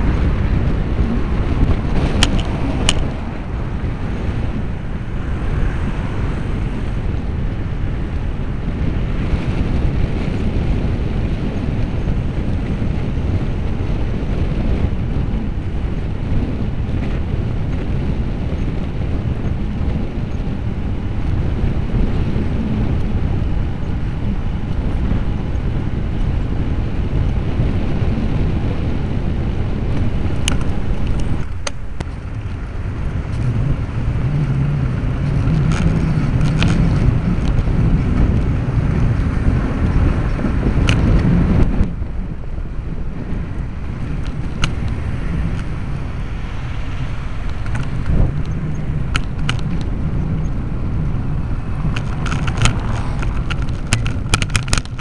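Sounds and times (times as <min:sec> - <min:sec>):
road traffic noise: 0:00.0 - 0:55.0
wind buffeting microphone: 0:00.0 - 0:55.0.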